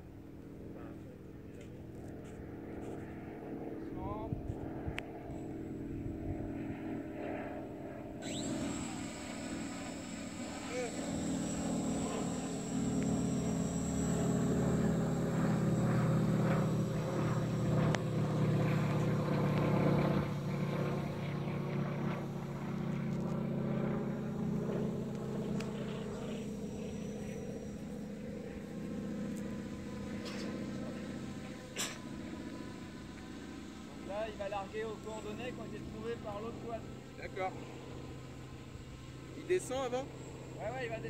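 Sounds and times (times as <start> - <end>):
drone propellers buzzing: 1.9 - 41.0.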